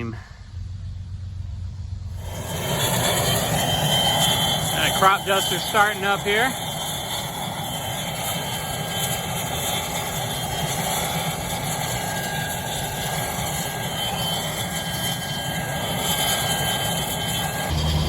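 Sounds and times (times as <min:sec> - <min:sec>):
airplane engine running: 0:00.0 - 0:18.0.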